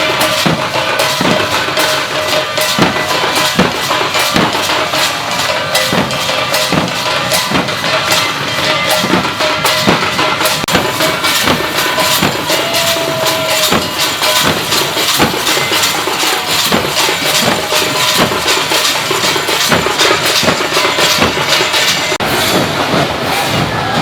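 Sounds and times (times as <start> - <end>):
cymbals clanging: 0.0 - 24.0
drums beating: 0.0 - 24.0.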